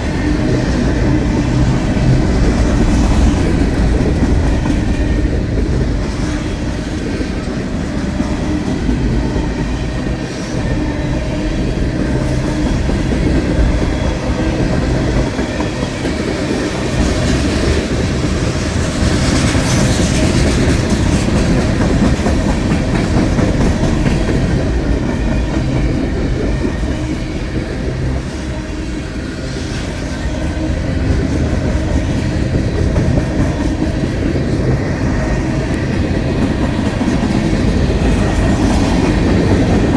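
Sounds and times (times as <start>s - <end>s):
train wheels clattering: 0.0s - 39.9s.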